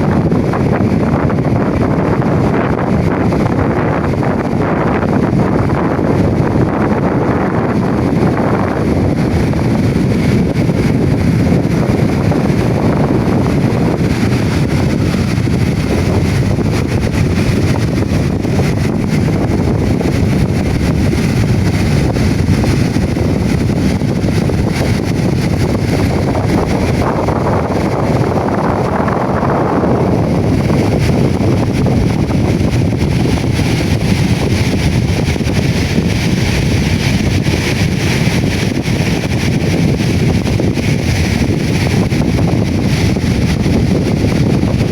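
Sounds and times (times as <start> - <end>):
waves washing onto beach: 0.0 - 44.9
wind buffeting microphone: 0.0 - 44.9.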